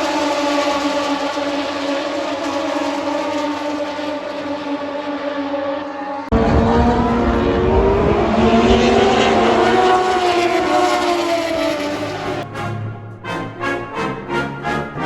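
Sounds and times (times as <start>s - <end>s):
racing motorcycle engine revving: 0.0s - 12.4s.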